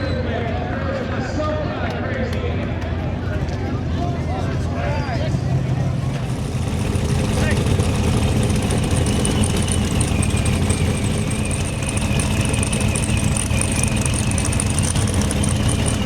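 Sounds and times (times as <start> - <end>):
race vehicle engine idling: 2.5 - 16.0.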